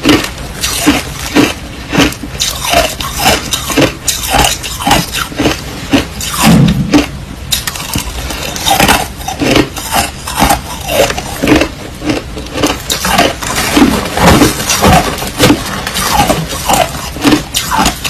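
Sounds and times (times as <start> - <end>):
crushed ice being chewed: 0.0 - 18.0.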